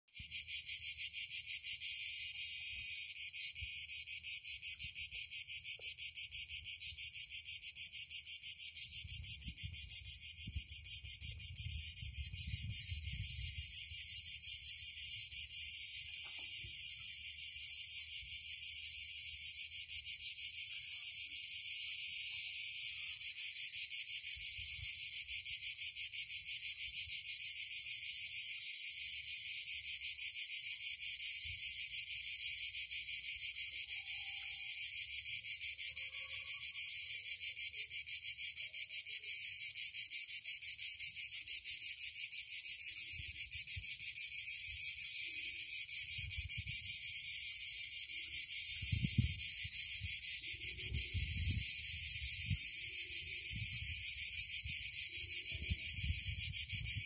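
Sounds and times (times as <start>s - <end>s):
cicadas buzzing: 0.1s - 57.0s.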